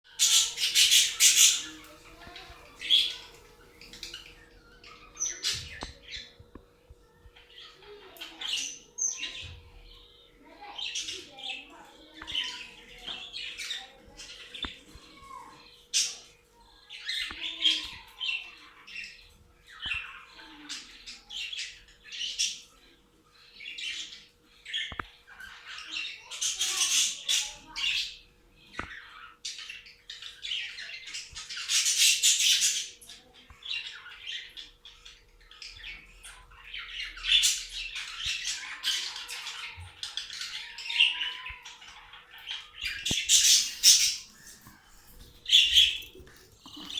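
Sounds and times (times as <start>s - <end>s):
budgerigars chattering and squawking: 0.1s - 6.4s, 7.1s - 16.4s, 17.0s - 46.9s.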